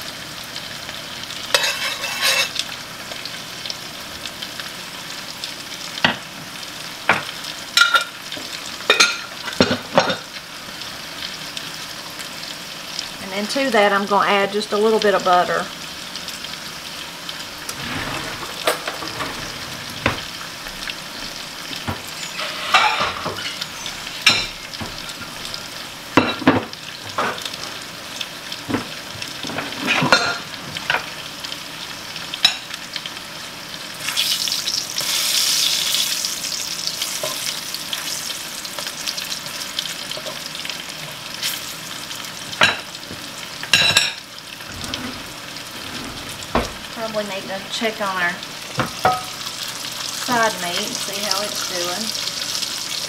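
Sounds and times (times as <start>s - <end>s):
squash sizzling in hot grease: 0.0s - 53.0s.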